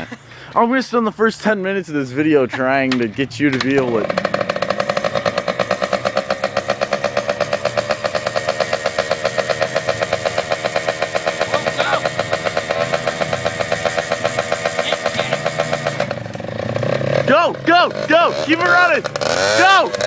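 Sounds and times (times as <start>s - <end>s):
dirt bike engine idling: 2.5s - 20.0s.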